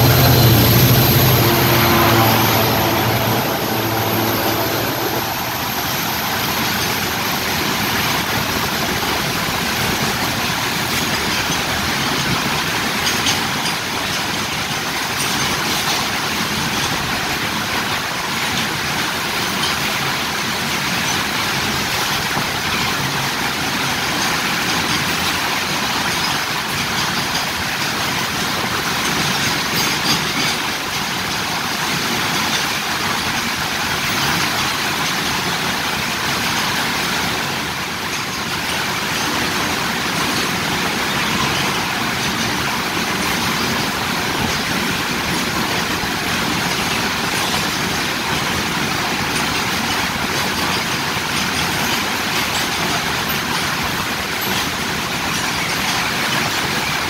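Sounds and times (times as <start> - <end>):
diesel locomotive engine: 0.0 - 57.0
train wheels rushing on rails: 0.0 - 57.0.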